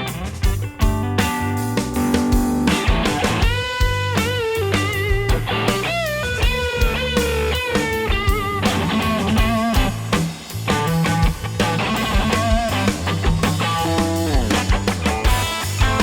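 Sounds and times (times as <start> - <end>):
electric guitar lead melody: 0.0 - 16.0
rock backing of bass and drums: 0.0 - 16.0.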